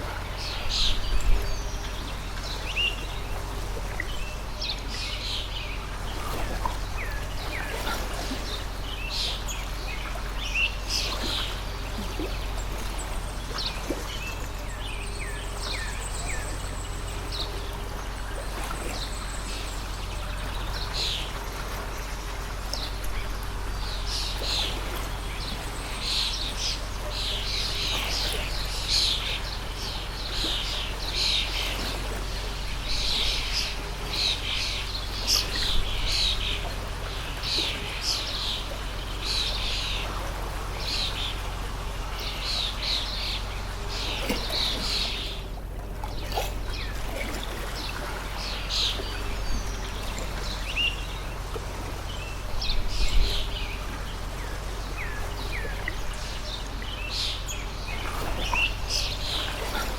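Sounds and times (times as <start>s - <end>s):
small birds chirping: 0.0s - 59.9s
water stream rushing: 0.0s - 59.9s.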